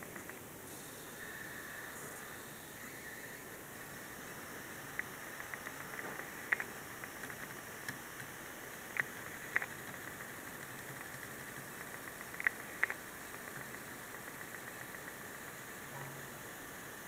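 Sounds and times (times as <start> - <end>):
laptop electrical static hiss: 0.0 - 17.0
sharp crackles: 1.7 - 16.4.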